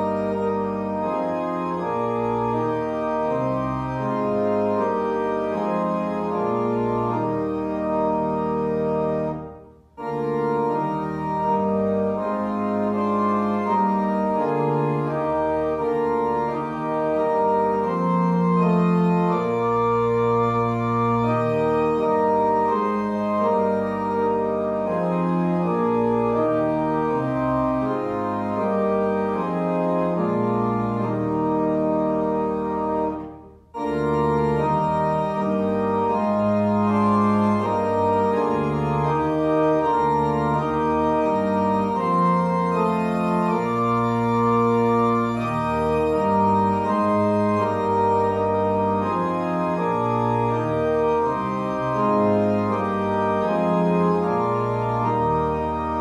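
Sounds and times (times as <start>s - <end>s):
organ playing sustained chords: 0.0s - 56.0s.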